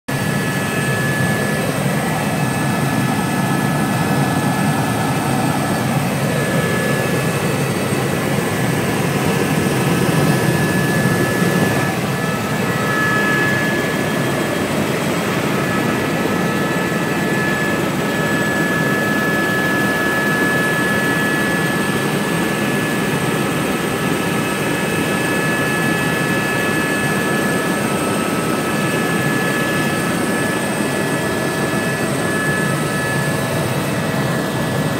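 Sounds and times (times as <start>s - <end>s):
helicopter turbine and rotor: 0.1s - 34.9s.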